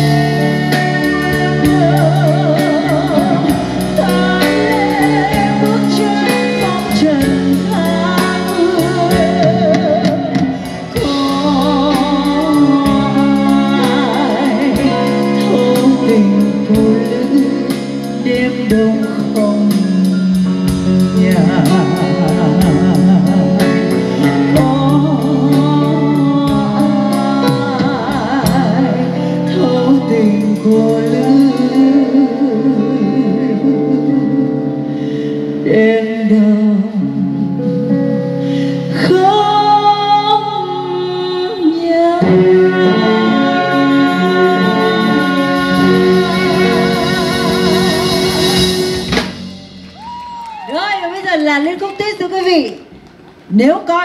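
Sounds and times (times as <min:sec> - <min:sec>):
lead melody with vibrato: 0:00.0 - 0:50.0
live band playing slow ballad: 0:00.0 - 0:54.0.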